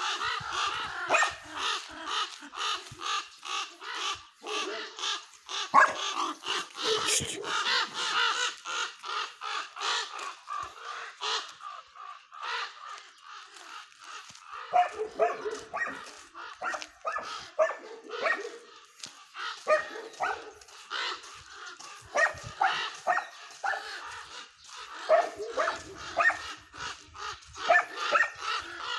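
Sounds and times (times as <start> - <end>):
raven cawing: 0.0 - 28.9.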